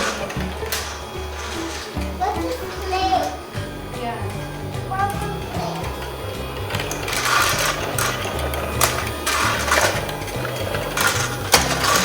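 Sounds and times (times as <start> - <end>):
background music bass line: 0.0 - 12.0
toy vacuum motor whirring: 0.0 - 12.0.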